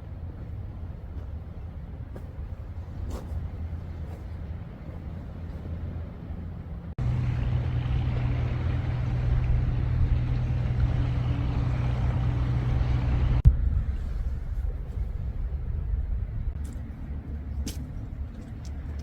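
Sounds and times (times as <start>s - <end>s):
engine drone with low hum: 0.0s - 19.0s
low rumble: 0.0s - 19.0s.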